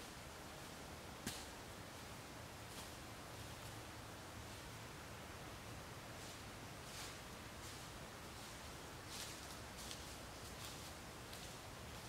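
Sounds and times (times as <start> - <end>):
woodland background hiss: 0.0 - 12.0.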